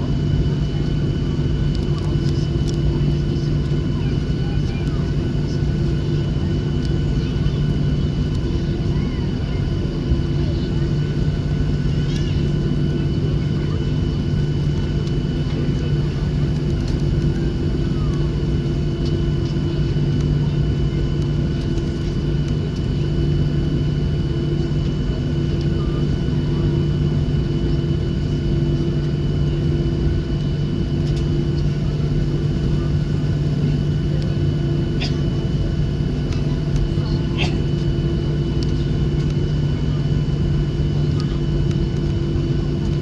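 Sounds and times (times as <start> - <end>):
jet engines idling in cabin: 0.0 - 43.0.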